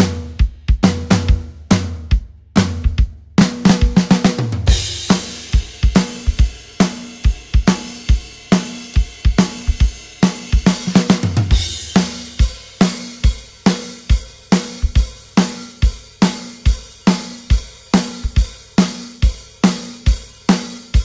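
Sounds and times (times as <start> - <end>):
drum kit beat: 0.0 - 21.0.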